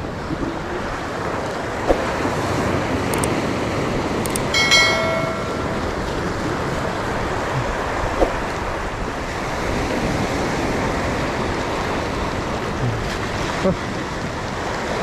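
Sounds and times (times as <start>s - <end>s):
surf washing over rocks: 0.0s - 15.0s.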